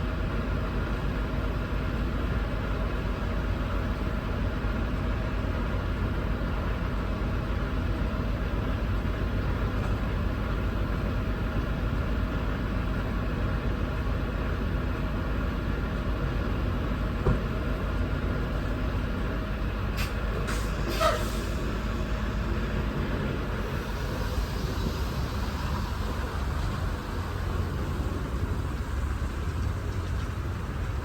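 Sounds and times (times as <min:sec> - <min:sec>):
road noise: 0:00.0 - 0:31.0
truck diesel engine rumble: 0:00.0 - 0:31.0.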